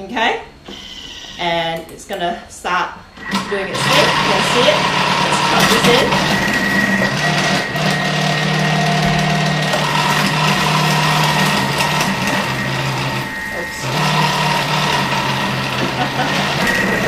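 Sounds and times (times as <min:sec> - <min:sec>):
food processor motor hum: 0:03.2 - 0:17.0.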